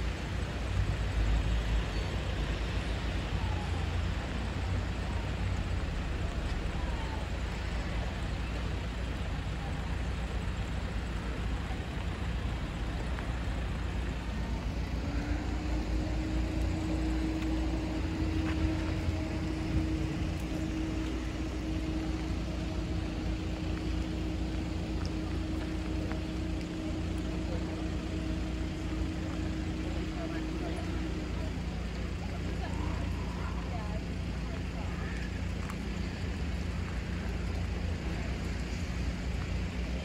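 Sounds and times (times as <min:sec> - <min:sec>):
diesel train engine rumbling: 0:00.0 - 0:40.0.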